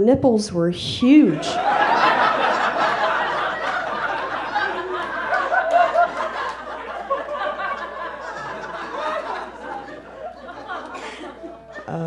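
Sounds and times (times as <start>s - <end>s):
audience laughing: 1.3s - 12.0s.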